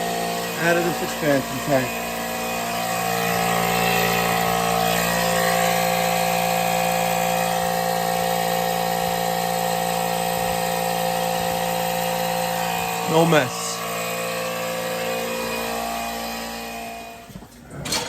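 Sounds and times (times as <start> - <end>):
electric pump humming: 0.0 - 18.0.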